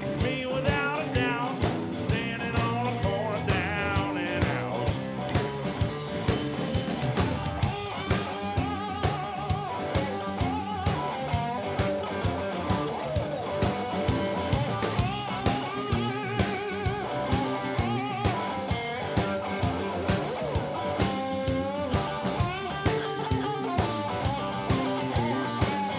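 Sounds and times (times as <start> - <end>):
blues band playing: 0.0 - 25.9
electric guitar lead notes: 0.0 - 25.9.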